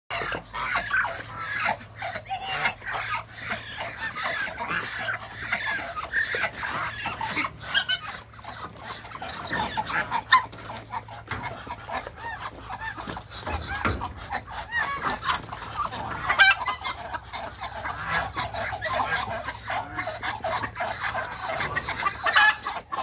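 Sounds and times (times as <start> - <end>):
poultry calling: 0.1 - 23.0.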